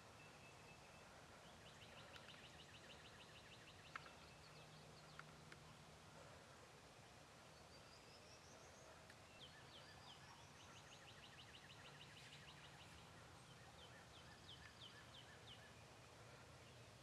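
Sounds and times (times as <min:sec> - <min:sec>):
faint birdsong whistles and trills: 0:00.0 - 0:17.0
faint low hum: 0:00.0 - 0:17.0.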